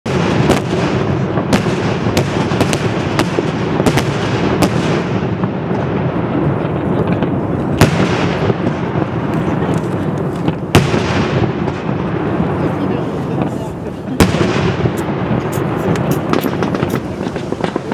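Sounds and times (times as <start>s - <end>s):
fireworks bangs: 0.1s - 17.9s
fireworks rumble: 0.1s - 17.9s.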